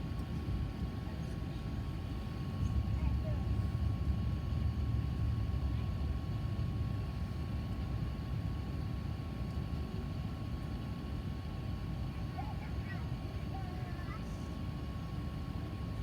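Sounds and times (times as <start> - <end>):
aircraft cabin low rumble: 0.0 - 16.0.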